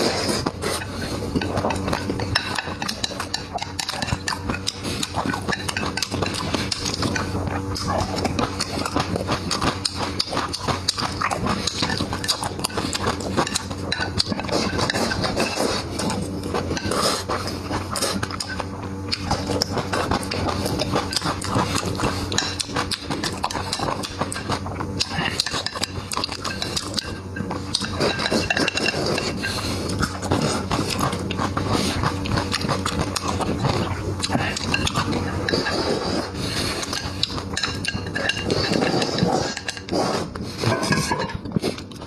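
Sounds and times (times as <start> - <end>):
person chewing and smacking: 0.0 - 42.0
utensils clinking on dishes: 0.0 - 42.0.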